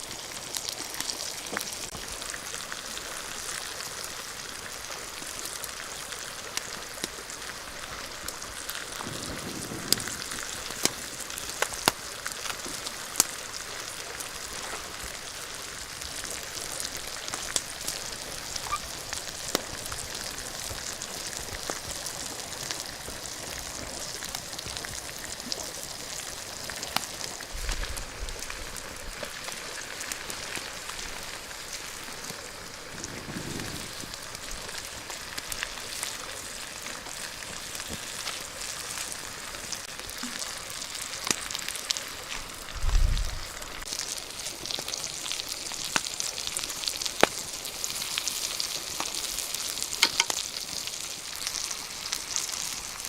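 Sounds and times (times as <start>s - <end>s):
fish sizzling on a hot rock: 0.0s - 53.0s
wood fire crackling: 0.0s - 53.0s.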